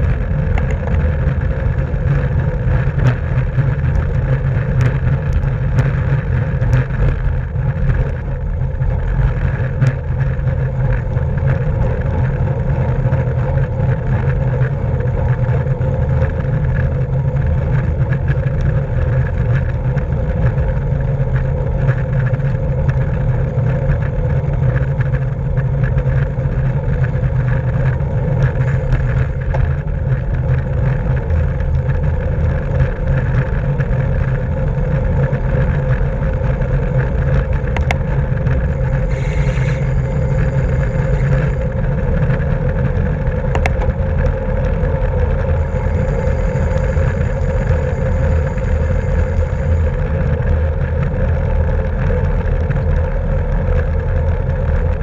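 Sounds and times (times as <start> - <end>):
road and tyre noise: 0.0 - 55.0
wind buffeting microphone: 0.0 - 55.0.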